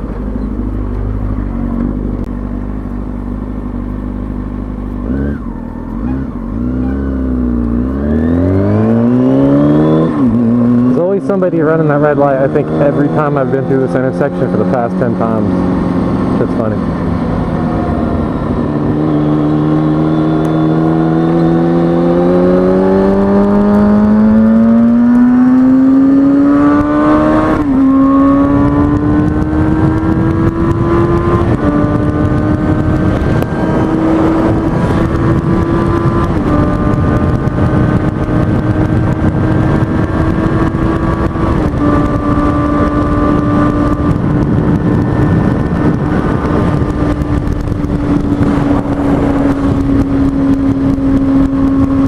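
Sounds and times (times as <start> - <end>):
sport bike engine revving: 5.0 - 52.0
wind noise: 6.0 - 52.0.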